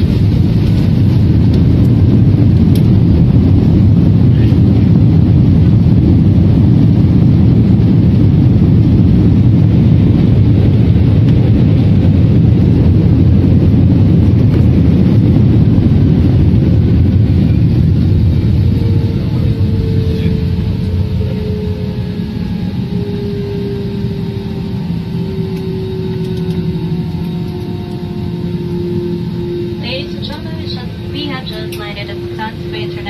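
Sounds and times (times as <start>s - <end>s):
airliner cabin rumble: 0.0s - 33.0s
jet engine whine: 0.0s - 33.0s.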